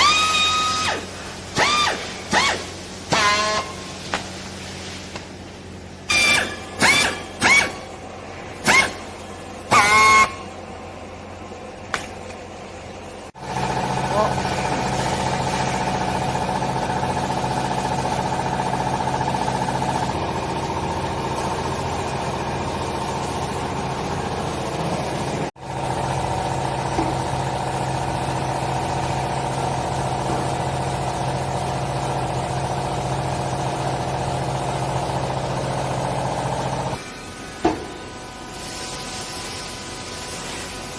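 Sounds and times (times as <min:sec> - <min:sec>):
hydraulic motor and pump humming: 0:00.0 - 0:40.9.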